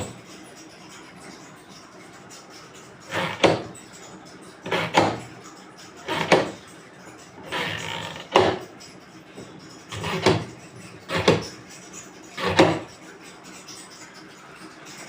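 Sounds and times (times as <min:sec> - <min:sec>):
scraping or rattling: 0:02.3 - 0:15.0.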